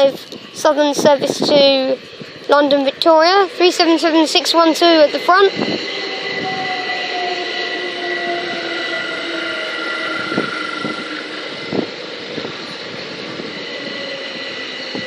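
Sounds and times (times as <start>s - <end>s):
electric train motor whine: 0.0s - 15.0s.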